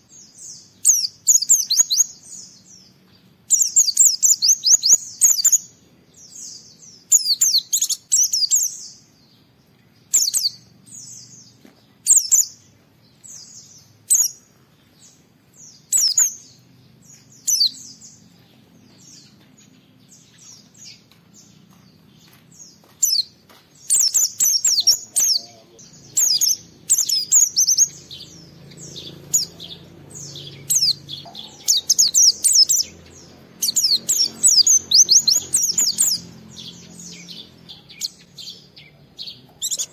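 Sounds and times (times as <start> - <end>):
small bird chirping and twittering: 0.0 - 39.9.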